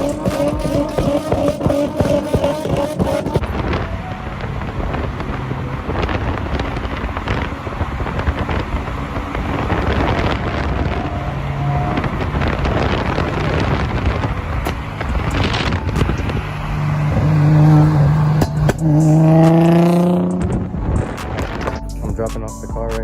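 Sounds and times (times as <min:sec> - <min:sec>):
wind on microphone: 0:00.0 - 0:22.2
car engine running: 0:00.0 - 0:22.9.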